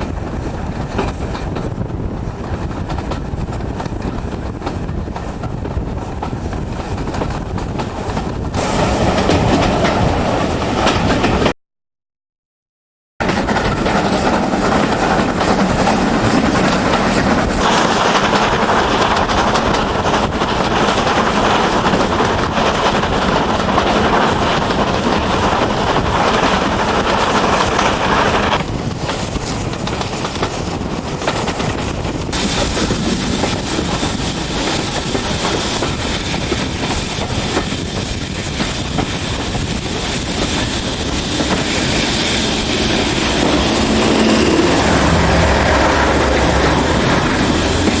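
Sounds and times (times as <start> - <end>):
wheels clattering on rails: 0.0 - 11.5, 13.2 - 48.0
train rumbling along track: 0.0 - 11.6, 13.2 - 48.0.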